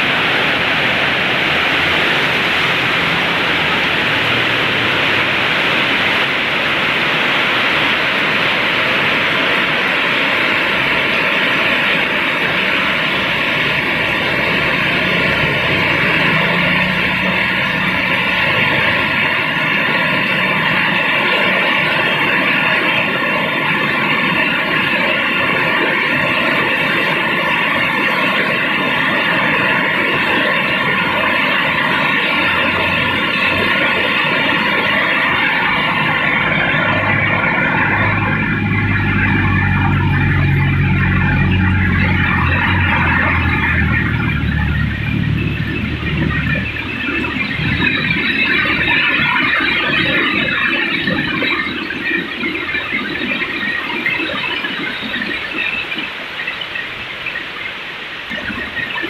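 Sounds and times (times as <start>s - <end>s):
heavy rain: 0.0s - 59.0s
strong wind: 0.0s - 59.0s.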